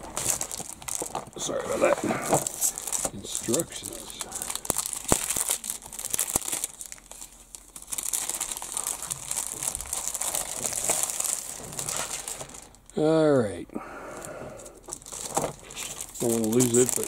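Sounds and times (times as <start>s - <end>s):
plastic bag crinkling: 0.0s - 13.0s, 14.2s - 17.0s.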